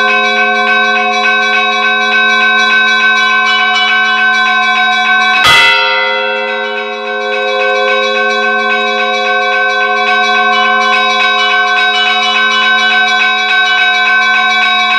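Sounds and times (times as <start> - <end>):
church bells pealing: 0.0 - 14.9
large bell strike: 0.0 - 14.9.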